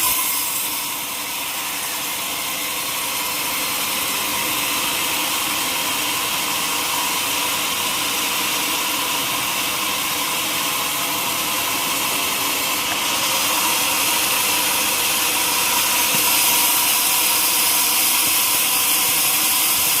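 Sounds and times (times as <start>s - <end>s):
saw cutting through log: 0.0s - 20.0s.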